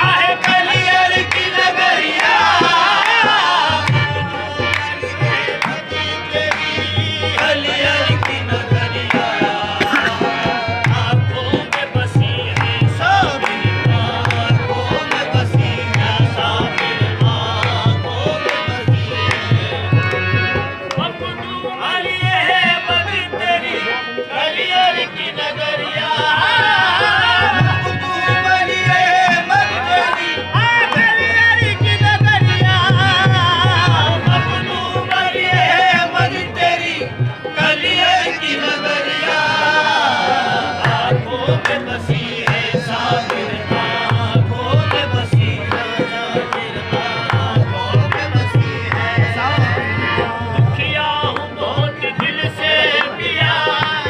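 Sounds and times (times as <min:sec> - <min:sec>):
harmonium: 0:00.0 - 0:54.0
tabla drumming: 0:00.0 - 0:54.0
voices singing: 0:00.0 - 0:54.0.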